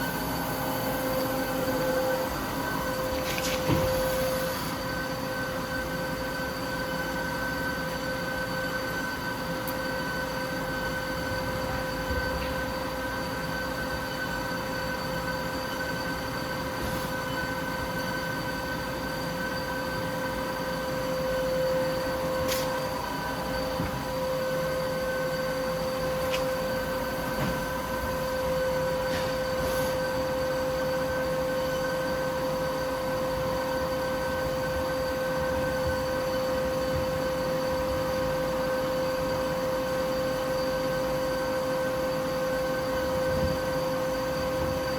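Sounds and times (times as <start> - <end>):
lathe machine whine: 0.0 - 44.9.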